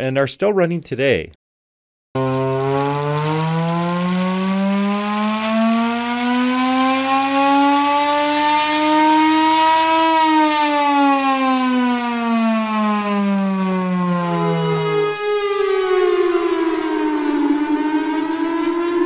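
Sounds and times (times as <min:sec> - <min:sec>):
air raid siren wailing: 0:02.2 - 0:19.0.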